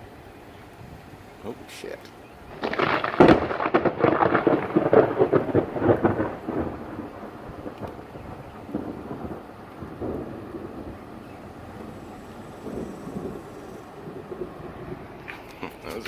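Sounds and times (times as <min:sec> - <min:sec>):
thunder cracking and rumbling: 0:00.0 - 0:16.0.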